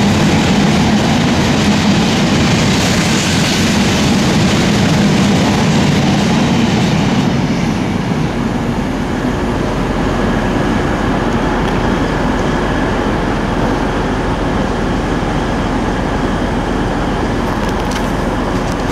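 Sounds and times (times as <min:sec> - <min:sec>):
diesel train idling hum: 0:00.0 - 0:18.9.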